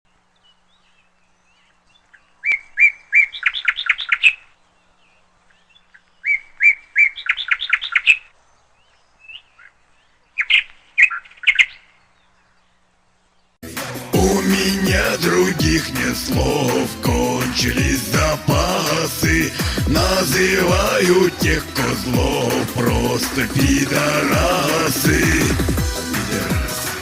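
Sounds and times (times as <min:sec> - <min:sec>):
songbird singing: 0:00.1 - 0:13.6, 0:14.3 - 0:25.6.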